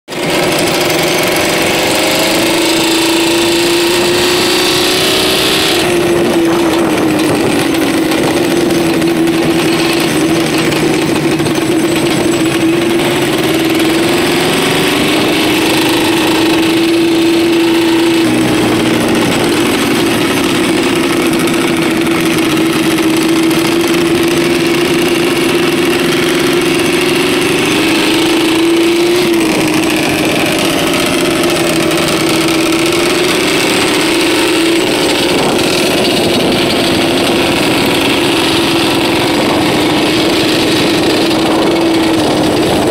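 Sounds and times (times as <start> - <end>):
quad bike engine running: 0.1 - 42.9.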